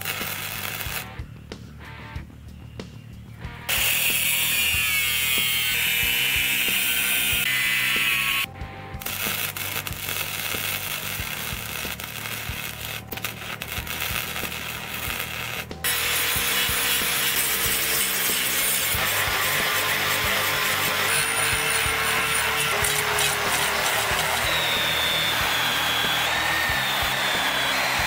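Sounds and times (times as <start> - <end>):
angle grinder cutting steel: 0.0 - 1.2, 3.7 - 28.0
angle grinder sanding steel: 0.0 - 1.2, 3.7 - 28.0
arc welding crackling: 0.0 - 1.3, 3.7 - 28.0.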